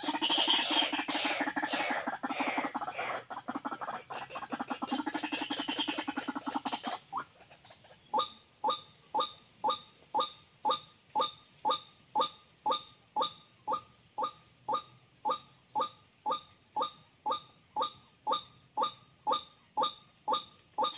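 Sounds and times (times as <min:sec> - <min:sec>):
waterhen stuttering croaks: 0:00.0 - 0:20.9.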